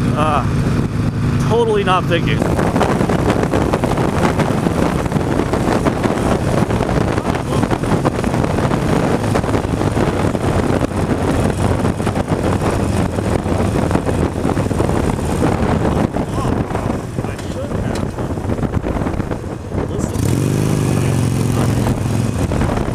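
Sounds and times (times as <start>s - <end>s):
motorcycle engine running: 0.0s - 22.9s
wind rushing over microphone: 0.0s - 22.9s.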